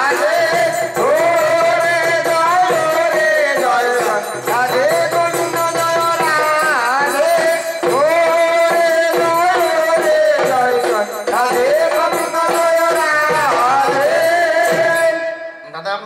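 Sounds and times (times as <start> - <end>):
barrel drum beats: 0.0 - 15.2
jingling hand percussion: 0.0 - 15.6.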